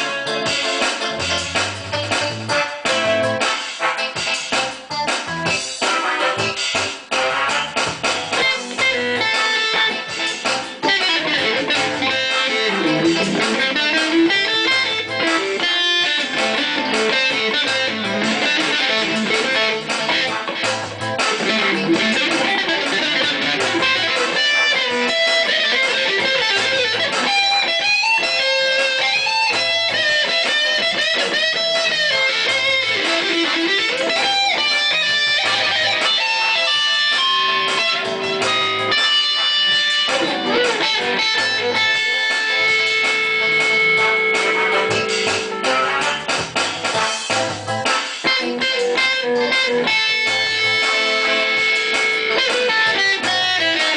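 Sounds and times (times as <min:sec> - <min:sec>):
electric guitar lead with bends: 0:00.0 - 0:53.9.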